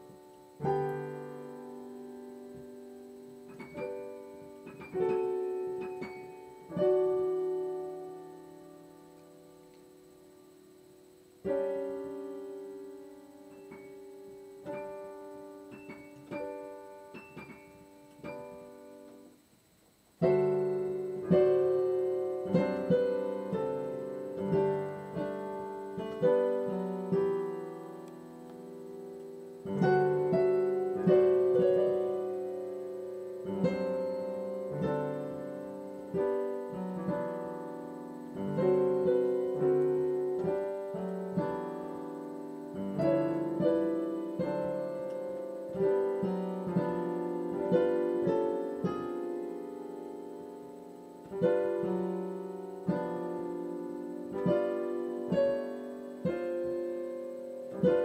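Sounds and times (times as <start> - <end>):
solo piano playing: 0.0 - 19.4, 20.2 - 58.0.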